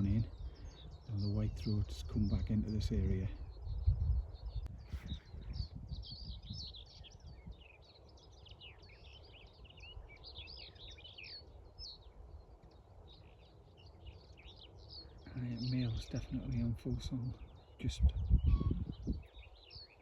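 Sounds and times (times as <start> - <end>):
bird warbling song: 0.0 - 20.0.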